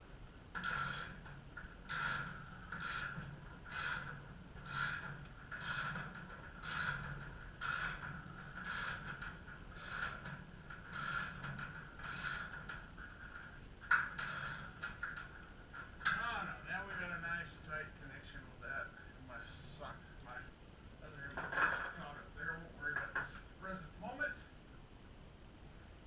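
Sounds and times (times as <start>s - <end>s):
mechanism strokes: 0.0s - 24.4s.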